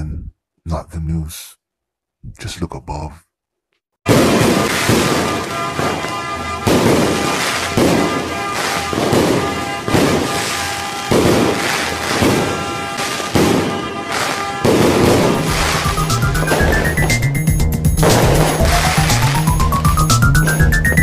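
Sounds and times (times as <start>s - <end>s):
fireworks bursting: 4.1s - 21.0s.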